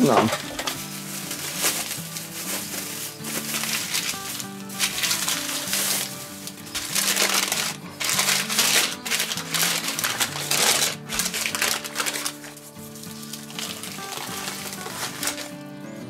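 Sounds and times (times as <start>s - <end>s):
plastic and paper crinkling: 0.0s - 15.8s
background music: 0.0s - 16.0s.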